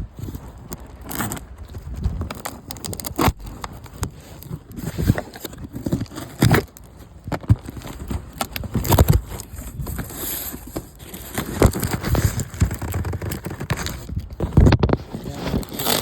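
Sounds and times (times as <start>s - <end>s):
cardboard box scraping: 0.0s - 16.0s.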